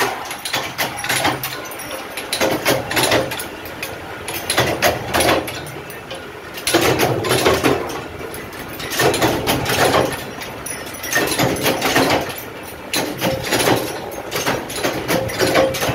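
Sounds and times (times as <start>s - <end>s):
flywheel drives humming: 0.0s - 15.9s
rapid metallic clanking of presses: 0.0s - 15.9s.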